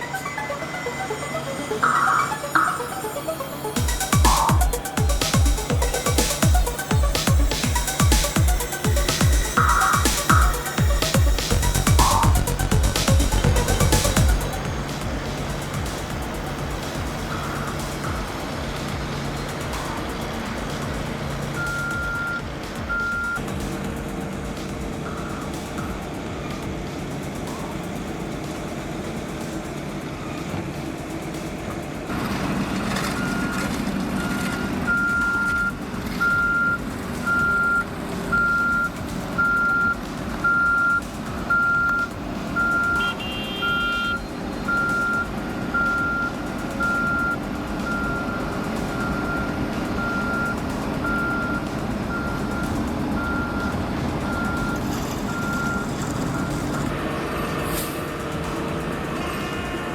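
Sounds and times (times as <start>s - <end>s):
truck reversing alarm beeping: 0.0s - 29.0s, 32.1s - 59.8s
heavy equipment engine running: 0.0s - 59.9s.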